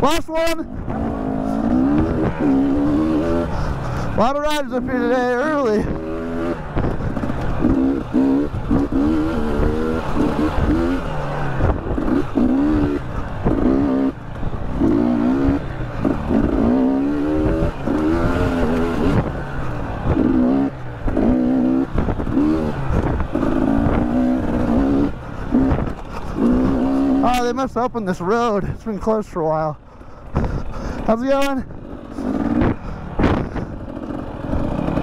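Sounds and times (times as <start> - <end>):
dirt bike engine revving: 0.0 - 28.7, 29.8 - 35.0
wind and riding noise: 0.0 - 35.0.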